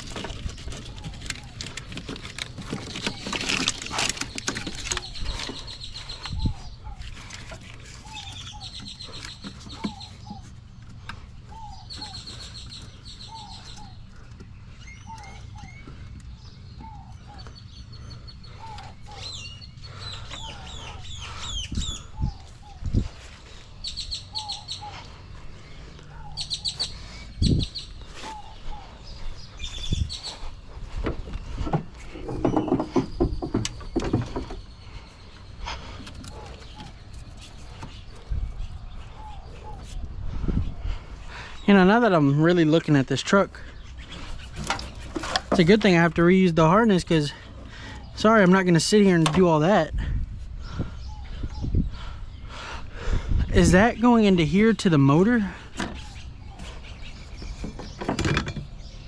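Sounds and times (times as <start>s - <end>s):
steady low hum: 0.0s - 49.3s
birds chirping and trilling: 0.0s - 59.0s.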